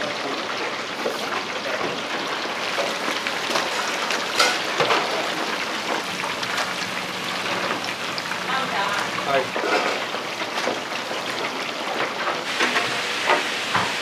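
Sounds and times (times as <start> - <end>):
rice sizzling in hot pan: 0.0 - 14.0.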